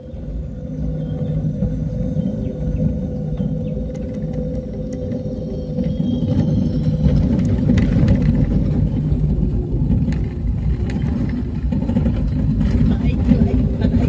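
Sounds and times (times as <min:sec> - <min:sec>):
vehicle engine and road rumble: 0:00.0 - 0:14.0
knocks and rattles: 0:01.5 - 0:14.0.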